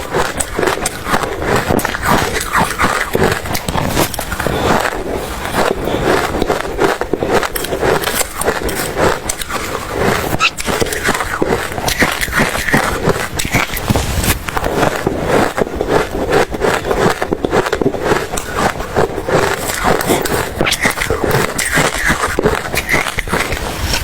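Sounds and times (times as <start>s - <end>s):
crunching and chewing ice: 0.0s - 24.0s.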